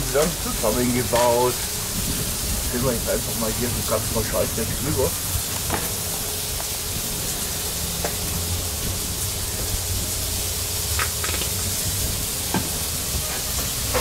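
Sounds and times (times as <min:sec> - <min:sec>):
food sizzling in frying: 0:00.0 - 0:14.0
low steady hum: 0:00.0 - 0:14.0.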